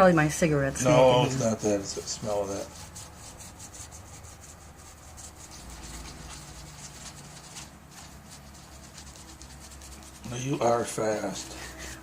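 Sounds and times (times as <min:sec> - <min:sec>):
paintbrush swishing on wood: 0:01.0 - 0:12.0.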